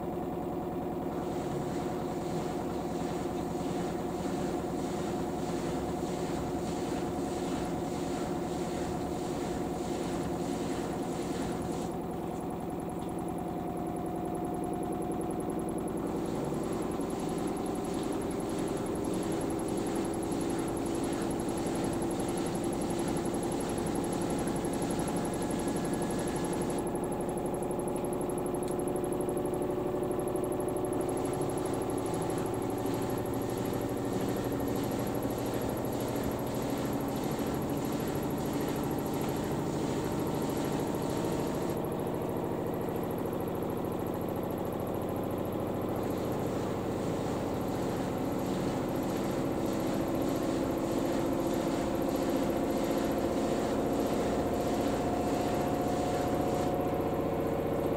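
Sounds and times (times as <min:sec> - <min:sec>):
washing machine spinning: 0:00.0 - 0:57.9.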